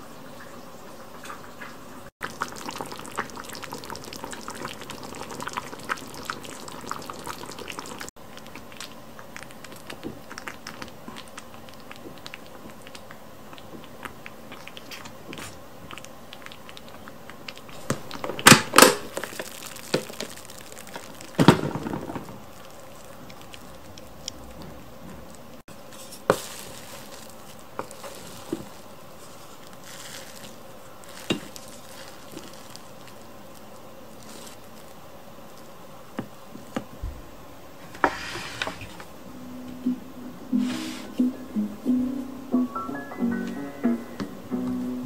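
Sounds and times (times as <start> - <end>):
curry simmering and bubbling: 0.2 - 36.9.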